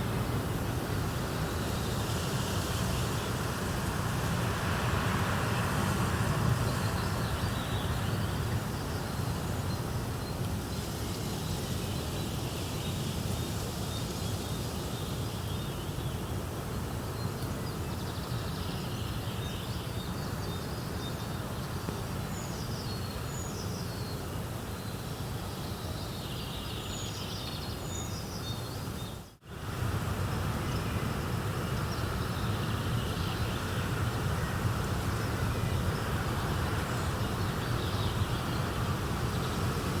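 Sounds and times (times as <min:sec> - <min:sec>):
rushing nature ambience: 0:00.0 - 0:40.0.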